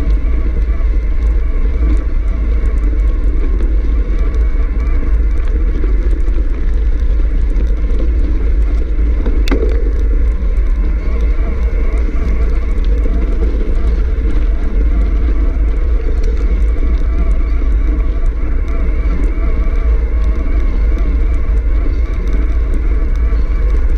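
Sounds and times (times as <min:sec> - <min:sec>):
bike tyres rolling on gravel: 0:00.0 - 0:23.9
wind buffeting microphone: 0:00.0 - 0:23.9.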